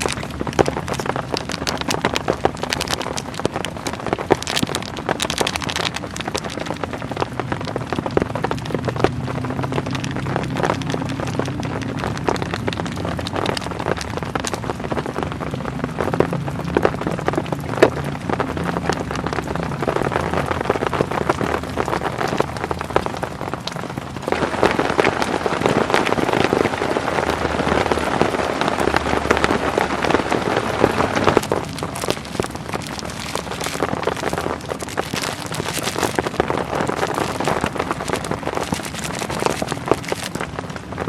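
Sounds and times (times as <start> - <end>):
heavy rain on a tent: 0.0 - 41.0.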